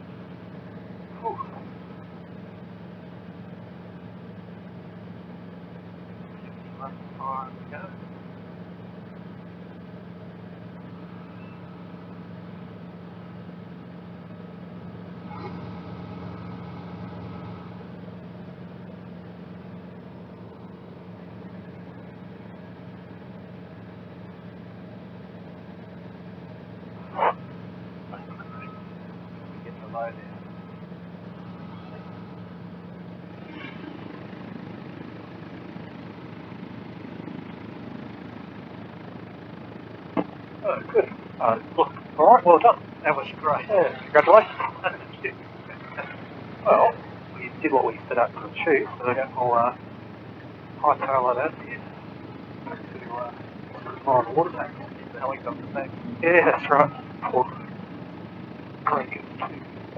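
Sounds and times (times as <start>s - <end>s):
helicopter engine and rotors: 0.0s - 59.9s.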